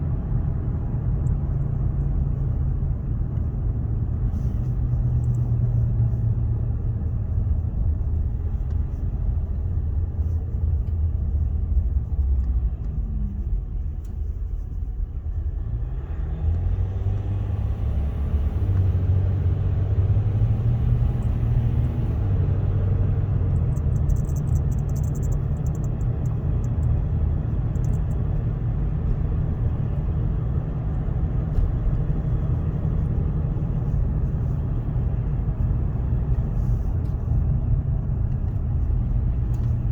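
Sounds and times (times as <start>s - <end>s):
engine and road rumble in cabin: 0.0s - 39.9s.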